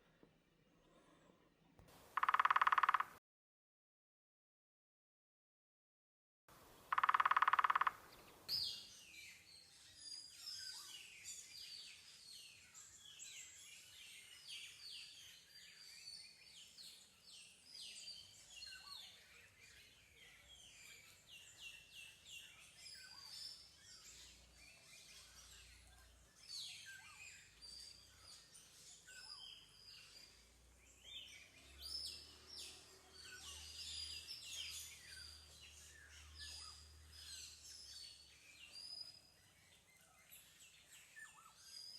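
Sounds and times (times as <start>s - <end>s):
small birds chirping: 0.0s - 3.2s, 6.6s - 41.9s.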